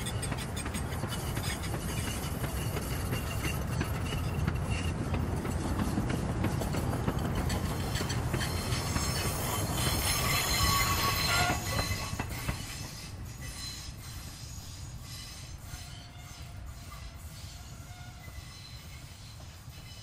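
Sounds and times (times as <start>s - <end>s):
train wheels rumbling and squealing: 0.0s - 20.0s.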